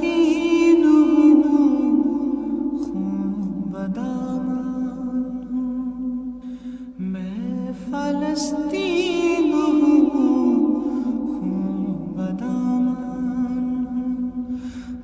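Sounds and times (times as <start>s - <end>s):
background vocal drone: 0.0s - 15.0s
solo voice singing: 0.0s - 15.0s.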